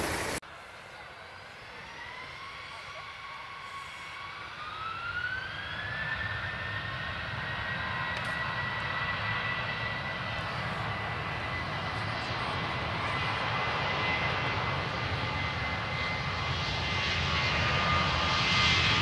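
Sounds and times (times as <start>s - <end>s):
jet engine low rumble: 0.0s - 19.0s
jet engine whine: 0.0s - 19.0s.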